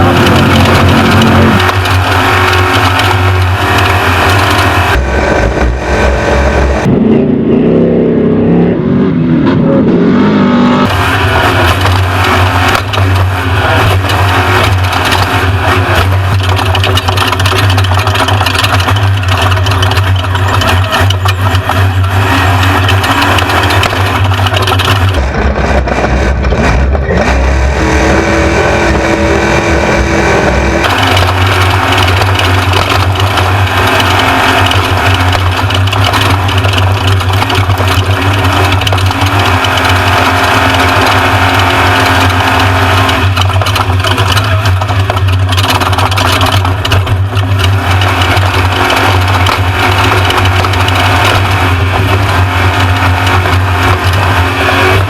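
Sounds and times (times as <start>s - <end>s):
truck engine droning under load: 0.0s - 55.0s.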